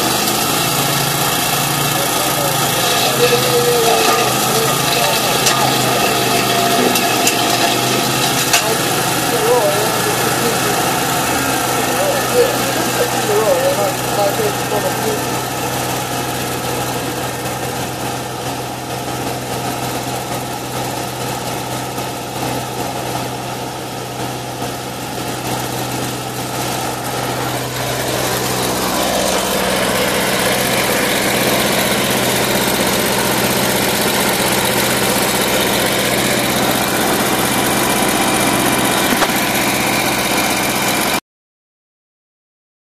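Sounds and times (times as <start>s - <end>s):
mini loader engine revving: 0.0s - 41.2s.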